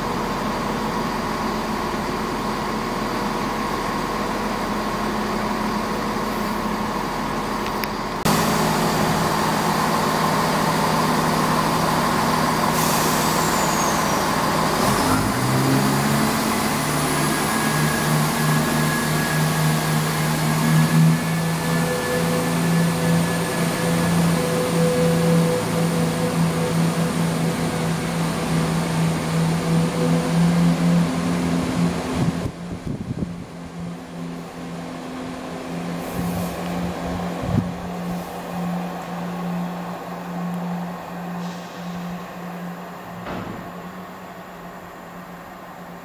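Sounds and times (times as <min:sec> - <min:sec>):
diesel train engine: 0:00.0 - 0:46.0.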